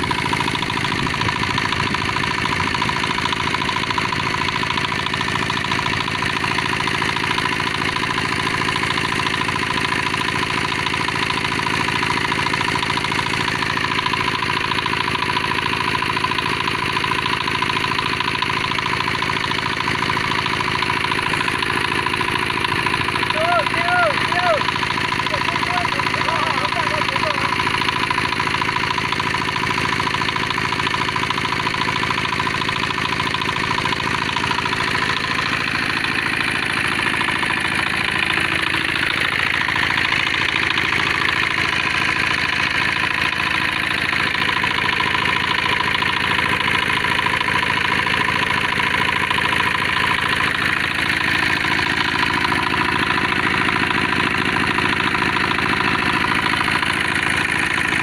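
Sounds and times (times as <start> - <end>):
diesel engine running: 0.0 - 58.0
pump whine: 0.0 - 58.0.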